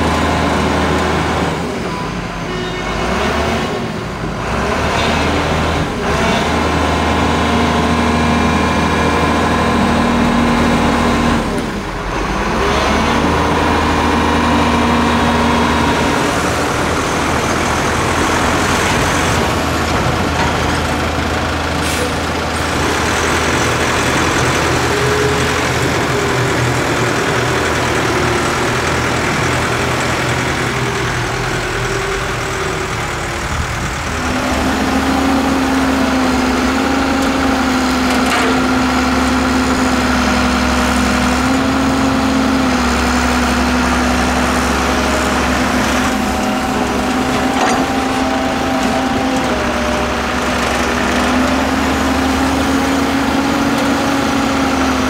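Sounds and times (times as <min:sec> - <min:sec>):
dump truck driving through puddles: 0:00.0 - 0:55.0
excavator diesel engine: 0:00.0 - 0:55.0.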